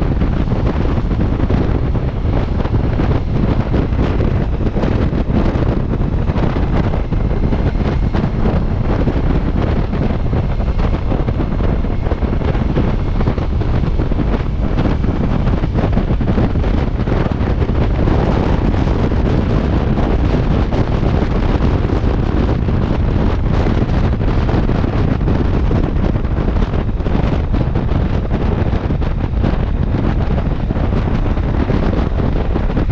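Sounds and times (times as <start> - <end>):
motorcycle engine rumble: 0.0 - 32.9
wind buffeting microphone: 0.0 - 32.9.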